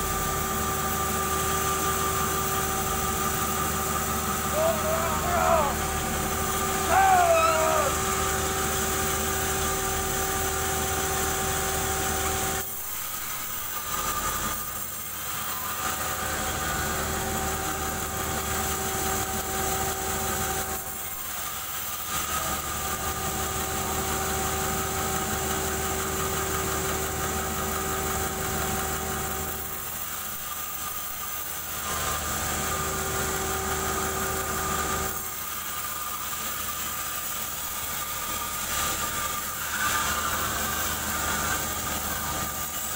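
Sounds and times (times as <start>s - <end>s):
sawmill machine hum: 0.0s - 42.9s.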